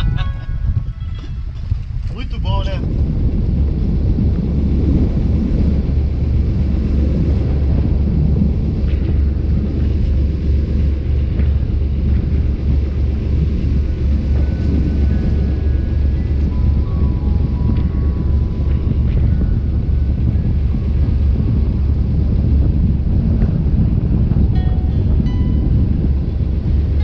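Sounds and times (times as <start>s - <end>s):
boat engine rumble: 0.0s - 27.0s
wind buffeting microphone: 0.0s - 27.0s.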